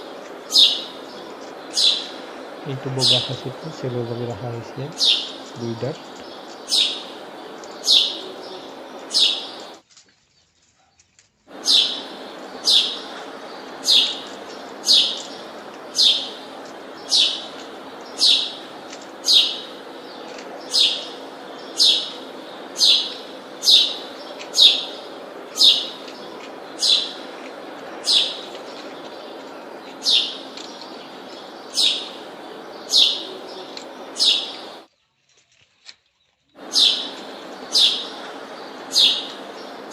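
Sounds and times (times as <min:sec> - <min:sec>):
low hum: 0:00.0 - 0:09.8, 0:11.5 - 0:34.9, 0:36.6 - 0:39.9
bird chirping: 0:00.0 - 0:10.7, 0:11.5 - 0:35.2, 0:36.2 - 0:39.9.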